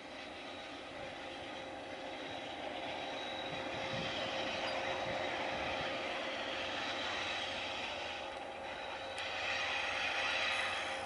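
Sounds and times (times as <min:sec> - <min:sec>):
locomotive engine running: 0:00.0 - 0:11.0.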